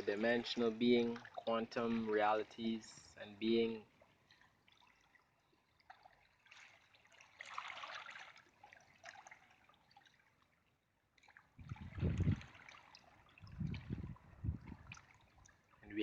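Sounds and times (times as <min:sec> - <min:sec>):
sea water washing: 0:00.0 - 0:16.0.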